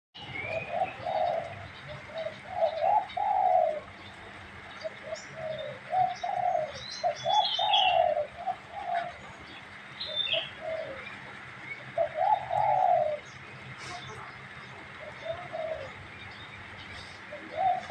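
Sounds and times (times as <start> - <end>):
dove cooing: 0.2 - 17.9.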